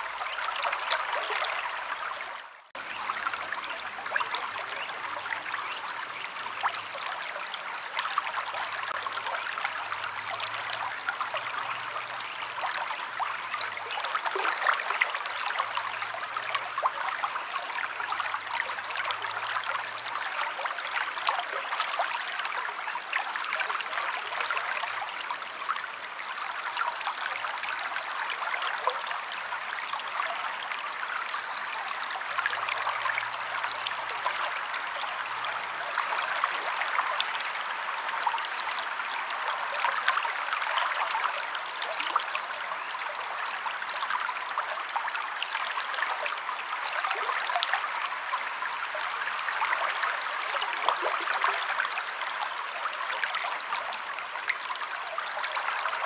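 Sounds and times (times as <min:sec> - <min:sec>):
river water flowing and splashing: 0:00.0 - 0:56.0.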